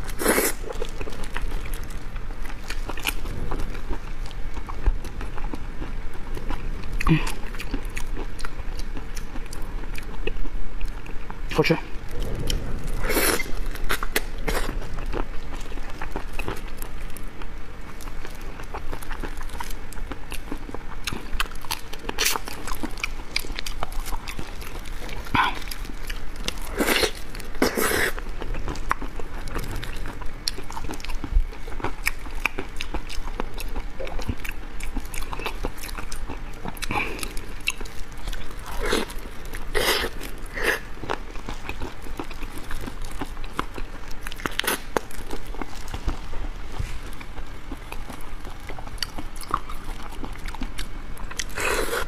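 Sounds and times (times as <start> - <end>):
wet chewing and sucking: 0.0 - 11.3, 12.0 - 52.0.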